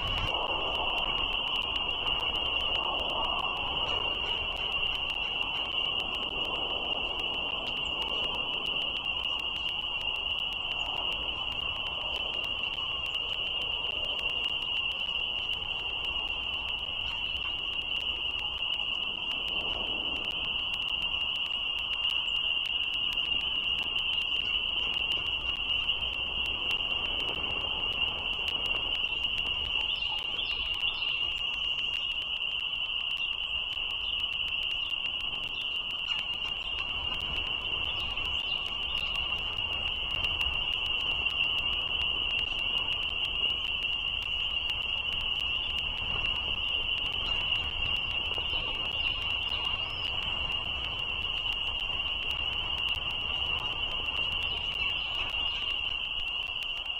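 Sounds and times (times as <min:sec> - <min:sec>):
frogs chorus trilling: 0:00.0 - 0:56.9.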